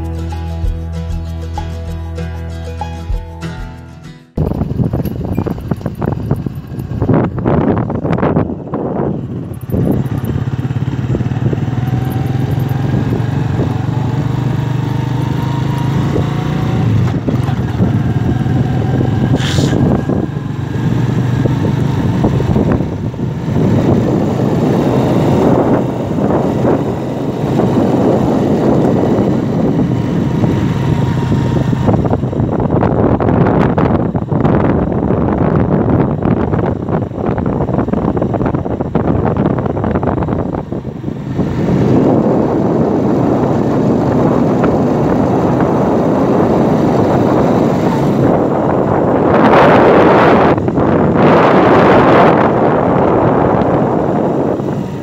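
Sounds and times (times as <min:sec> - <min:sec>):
small motorcycle engine running: 0:04.4 - 0:55.0
wind rushing over microphone: 0:04.4 - 0:55.0.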